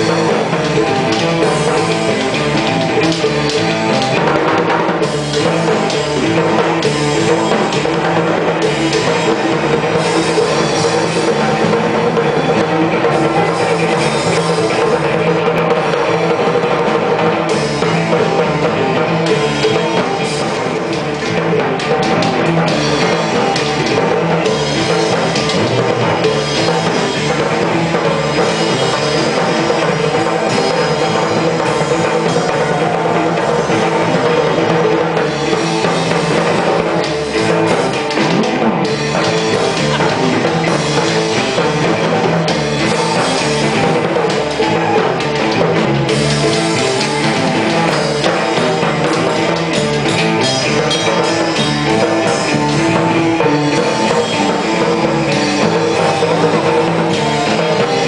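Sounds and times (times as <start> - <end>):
live rock music: 0.0 - 58.0.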